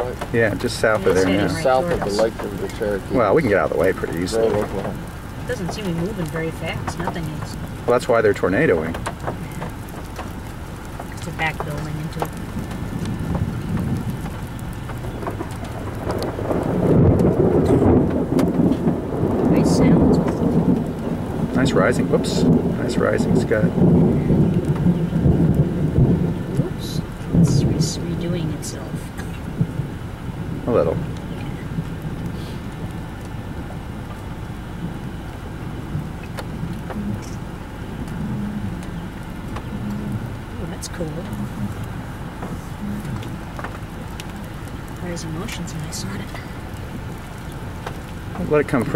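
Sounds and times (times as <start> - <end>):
thunder rumbling: 0.0 - 48.9.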